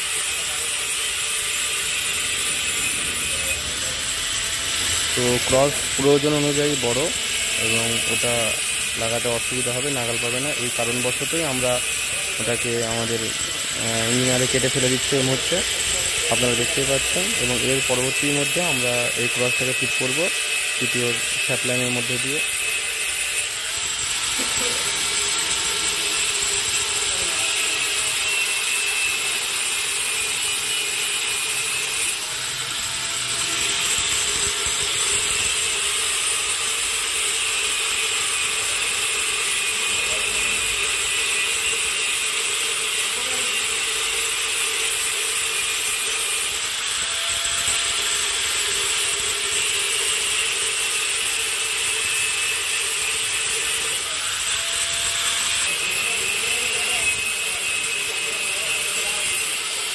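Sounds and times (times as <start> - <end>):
power tool cutting metal shaft: 0.0 - 59.9.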